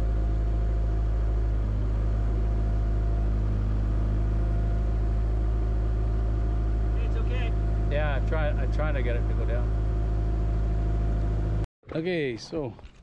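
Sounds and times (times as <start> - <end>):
diesel engine droning: 0.0 - 11.7.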